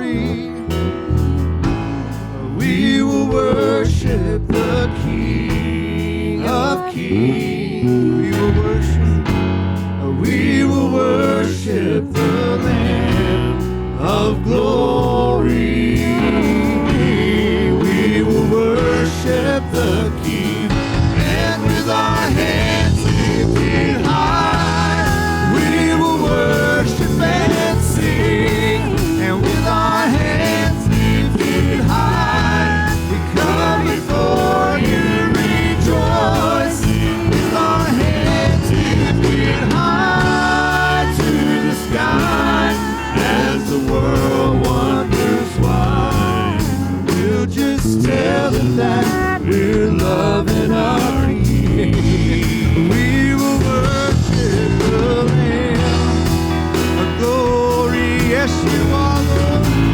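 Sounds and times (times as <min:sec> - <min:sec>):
gospel band with singing: 0:00.0 - 0:59.9.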